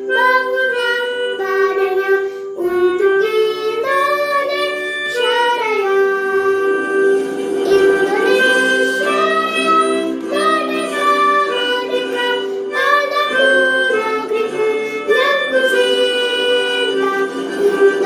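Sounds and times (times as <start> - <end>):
person singing long gliding notes: 0.0 - 18.0
sustained instrumental accompaniment: 0.0 - 18.0.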